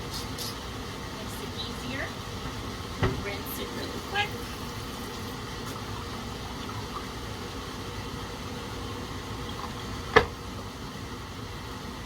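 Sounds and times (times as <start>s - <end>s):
hissing kitchen background noise: 0.0s - 12.0s.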